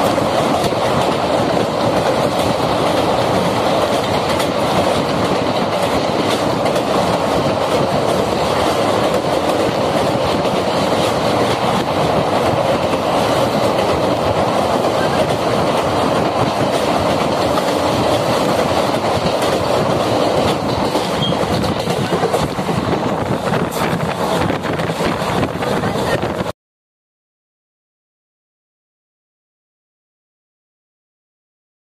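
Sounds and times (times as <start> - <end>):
train wheels on rails: 0.0 - 26.5.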